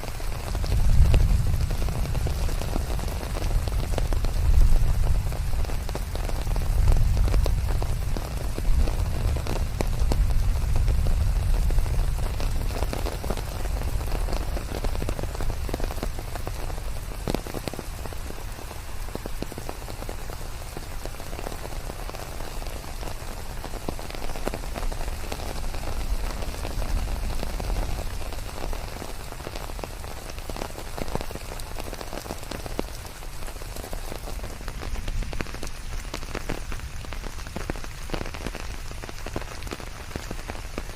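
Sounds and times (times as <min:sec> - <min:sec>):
heavy rain in a forest: 0:00.0 - 0:40.9
raindrops ticking: 0:00.0 - 0:40.9.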